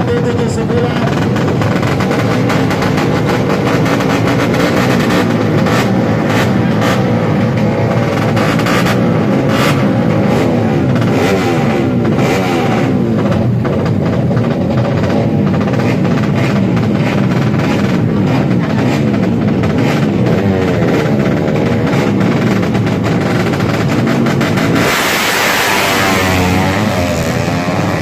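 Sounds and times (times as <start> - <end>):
motorcycle engines revving hard: 0.0 - 28.0.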